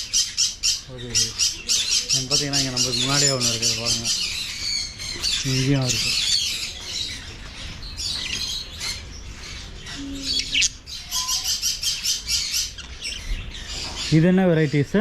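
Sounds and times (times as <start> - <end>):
parrots chirping and squawking: 0.0 - 15.0
sharp chattering calls: 0.0 - 15.0.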